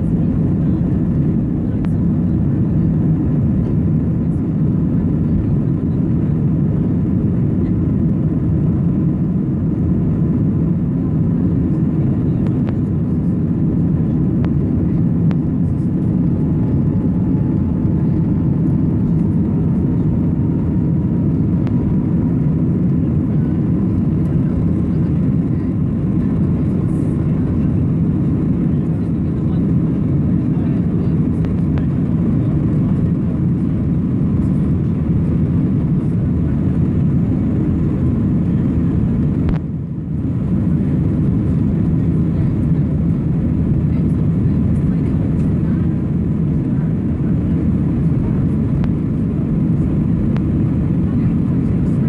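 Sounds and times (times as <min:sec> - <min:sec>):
jet engine roar: 0:00.0 - 0:52.0.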